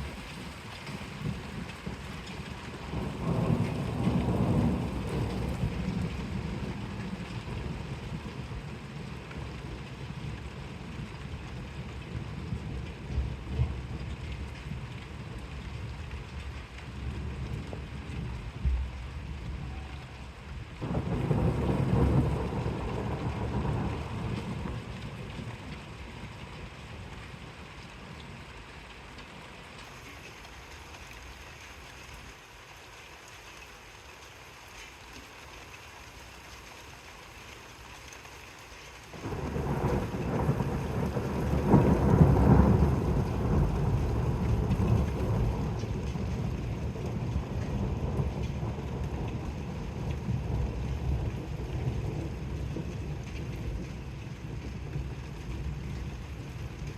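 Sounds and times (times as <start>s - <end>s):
thunder rumbling: 0.0s - 28.3s, 39.2s - 56.9s
light rain: 0.0s - 56.9s.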